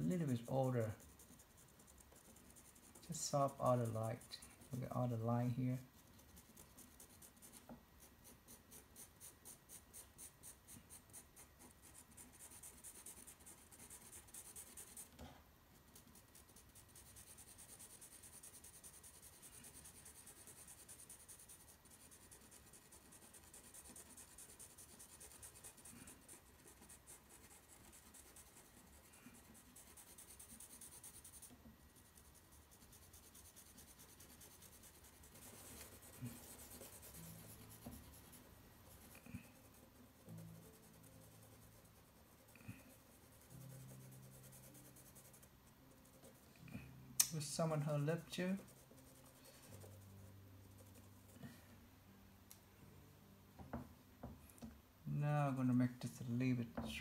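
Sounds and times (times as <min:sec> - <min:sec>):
pencil scratching on paper: 0:00.0 - 0:46.9, 0:47.7 - 0:51.4.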